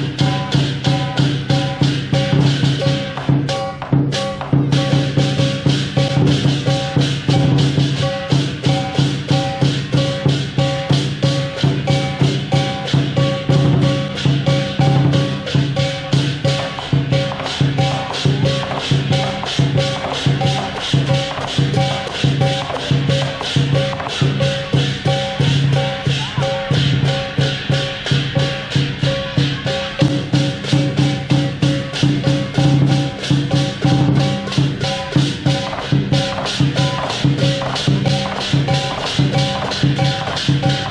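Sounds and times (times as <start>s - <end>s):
big drum beating: 0.0s - 40.9s
cymbals clashing: 0.0s - 40.9s
gong: 0.0s - 40.9s.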